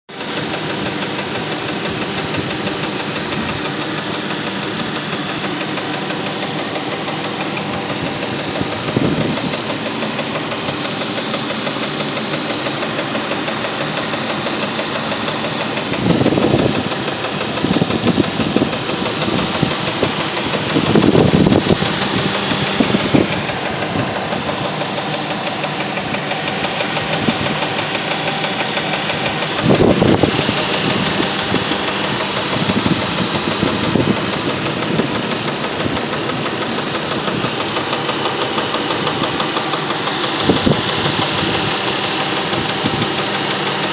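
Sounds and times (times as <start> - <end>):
car engine knocking: 0.1 - 43.9.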